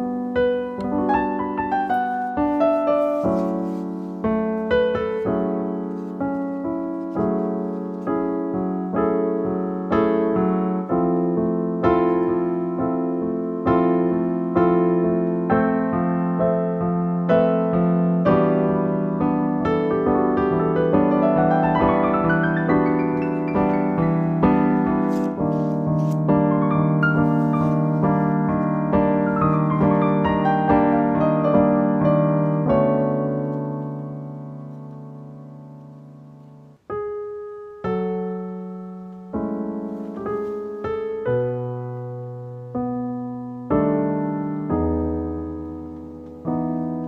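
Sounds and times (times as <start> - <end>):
piano music: 0.0 - 47.0.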